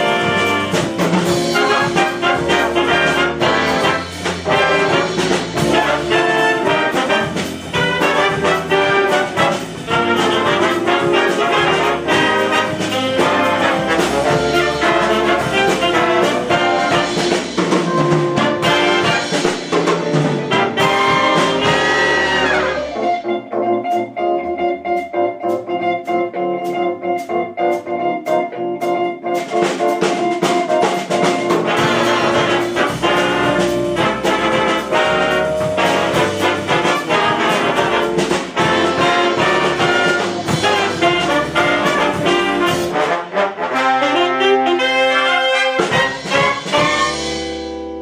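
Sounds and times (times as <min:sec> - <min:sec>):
jazz big band playing: 0:00.0 - 0:48.0.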